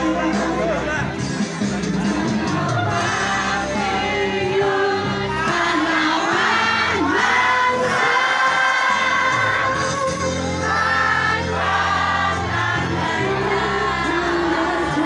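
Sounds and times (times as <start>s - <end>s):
choir of voices singing: 1.8s - 15.0s.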